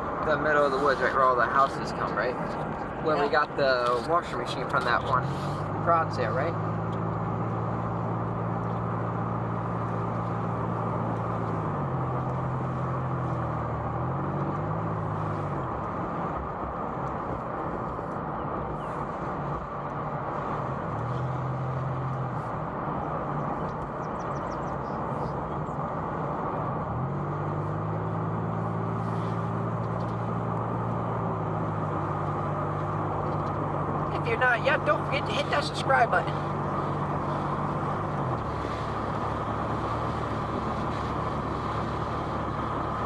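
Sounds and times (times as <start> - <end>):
car engine hum: 0.0 - 43.0
road and tyre rumble: 0.0 - 43.0.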